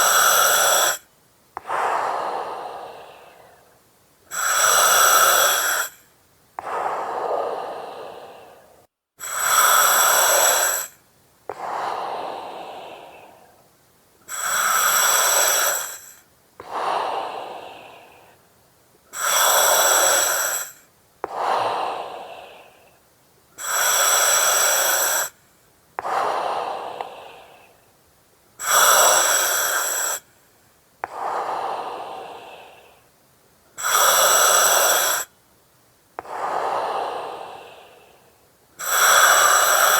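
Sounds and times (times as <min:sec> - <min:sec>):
breathing through oxygen mask: 0:00.0 - 0:01.0, 0:01.6 - 0:06.0, 0:06.6 - 0:13.6, 0:14.3 - 0:18.4, 0:19.1 - 0:23.0, 0:23.6 - 0:25.4, 0:26.0 - 0:27.8, 0:28.6 - 0:30.4, 0:31.0 - 0:33.1, 0:33.8 - 0:35.3, 0:36.2 - 0:39.9.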